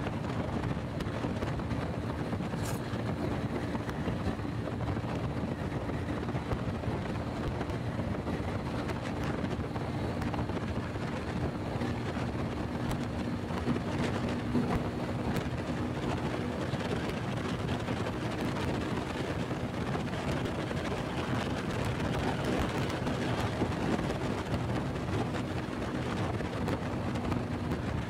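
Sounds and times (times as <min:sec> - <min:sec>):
motorbike engine running: 0:00.0 - 0:28.0
wind noise on microphone: 0:00.0 - 0:28.0.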